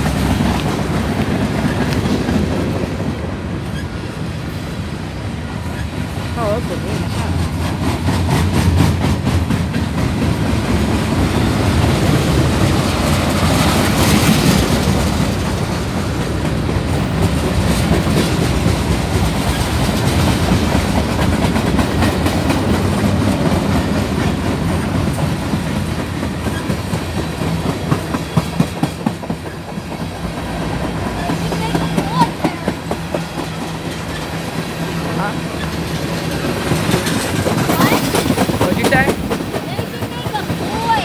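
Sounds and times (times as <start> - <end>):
train wheels rumbling on track: 0.0 - 41.0
wheels clicking over rail joints: 0.0 - 41.0.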